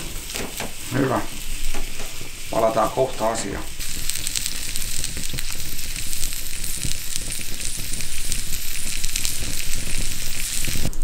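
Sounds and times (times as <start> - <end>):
fine crackles: 0.0 - 11.0
food sizzling in a pan: 0.0 - 11.0.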